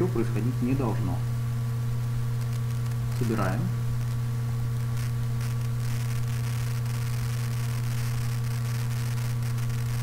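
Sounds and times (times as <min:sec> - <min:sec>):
electrical hum: 0:00.0 - 0:10.0
microphone hiss: 0:00.0 - 0:10.0.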